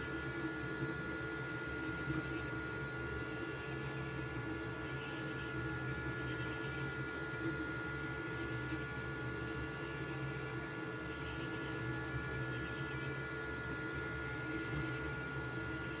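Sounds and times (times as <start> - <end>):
three d printer motor and fan hum: 0.0 - 16.0.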